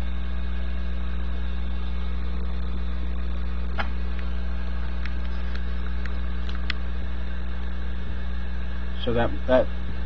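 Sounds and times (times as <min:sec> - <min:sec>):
blower fan humming: 0:00.0 - 0:10.0.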